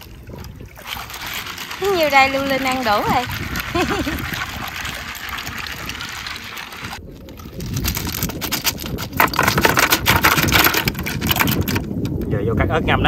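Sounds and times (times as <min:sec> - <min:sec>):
water swishing: 0:00.0 - 0:12.3.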